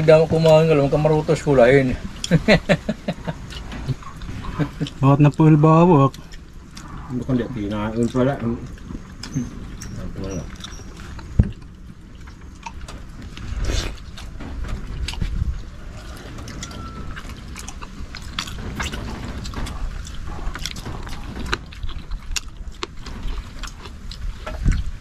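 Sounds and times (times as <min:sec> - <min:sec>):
chewing: 0:03.2 - 0:25.0.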